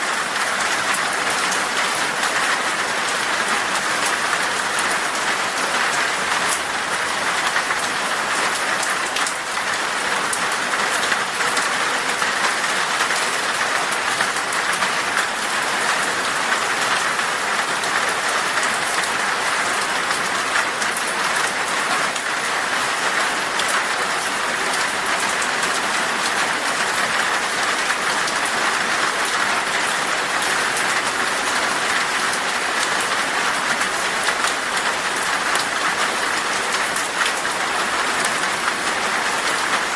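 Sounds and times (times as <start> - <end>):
heavy rain on glass: 0.0 - 39.9.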